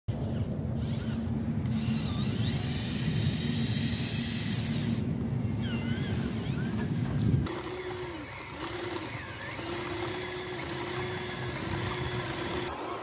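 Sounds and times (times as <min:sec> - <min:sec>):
small electric motor whirring: 0:00.1 - 0:13.0.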